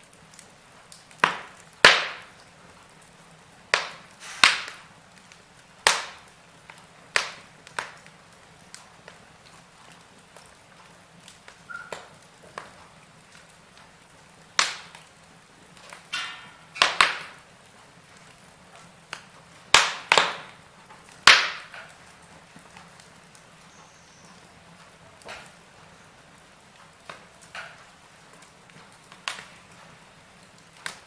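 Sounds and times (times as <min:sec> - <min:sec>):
faint steady hiss: 0:00.0 - 0:31.0
wood fire crackling: 0:00.0 - 0:31.0.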